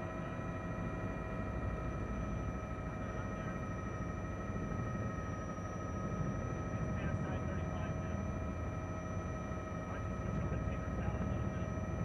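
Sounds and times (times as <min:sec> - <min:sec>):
helicopter in flight: 0:00.0 - 0:12.0.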